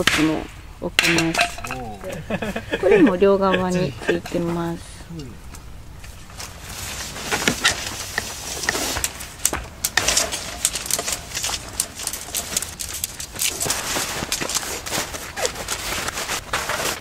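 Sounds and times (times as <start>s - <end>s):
objects being handled: 1.0s - 2.4s, 4.0s - 17.0s.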